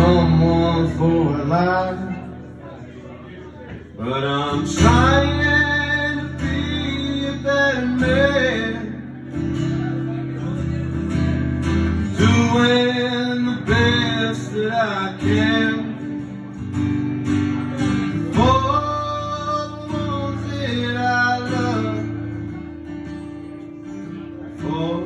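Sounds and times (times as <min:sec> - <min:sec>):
man singing: 0:00.0 - 0:16.7, 0:17.4 - 0:22.7, 0:24.1 - 0:25.0
acoustic guitar strumming: 0:00.0 - 0:25.0.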